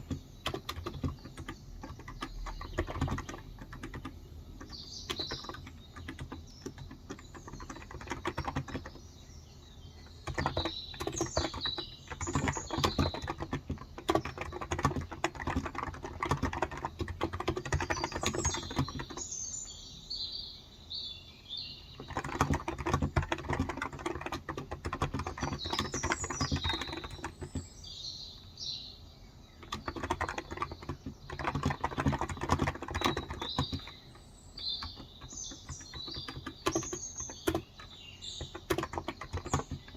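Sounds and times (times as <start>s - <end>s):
keyboard typing: 0.0s - 19.4s, 22.0s - 27.9s, 29.6s - 39.9s
small birds chirping: 0.0s - 39.9s.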